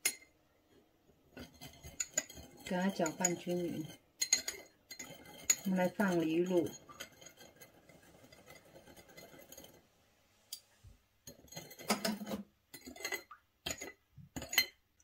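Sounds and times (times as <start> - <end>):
metal spoon stirring in glass bowl: 0.0 - 0.3, 1.3 - 9.9, 11.2 - 15.0.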